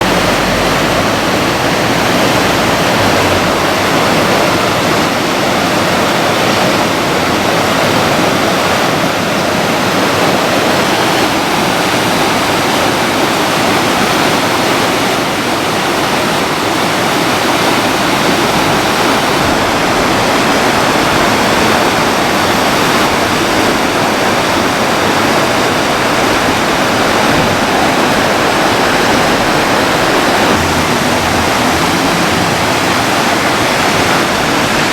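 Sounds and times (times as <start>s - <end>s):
fast-flowing water rushing: 0.0s - 34.9s.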